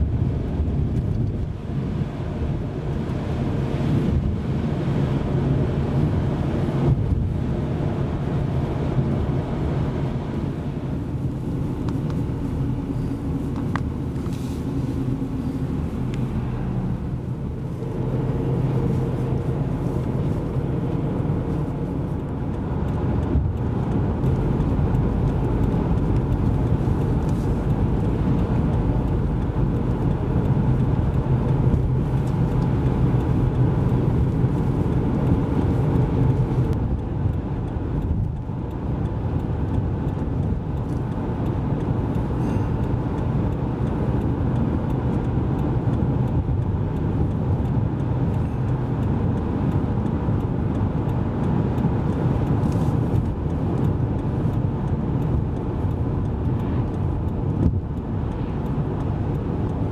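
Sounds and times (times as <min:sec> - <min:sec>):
car road noise from inside: 0:00.0 - 0:59.9.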